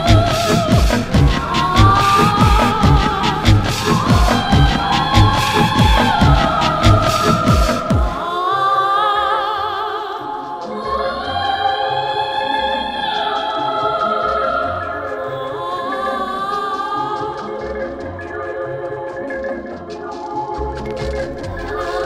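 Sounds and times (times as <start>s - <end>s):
voices singing classical style: 0.0s - 20.8s.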